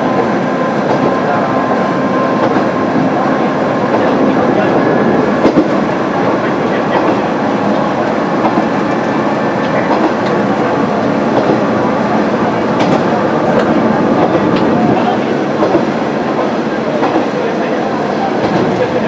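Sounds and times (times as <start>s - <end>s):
railcar engine running: 0.0s - 19.0s.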